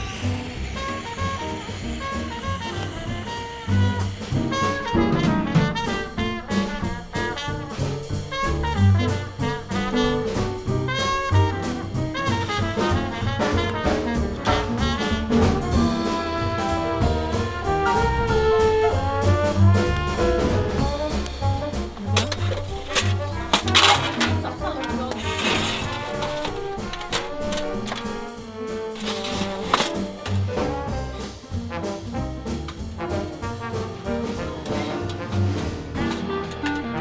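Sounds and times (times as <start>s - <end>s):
upbeat jazzy music with brass: 0.0s - 37.0s.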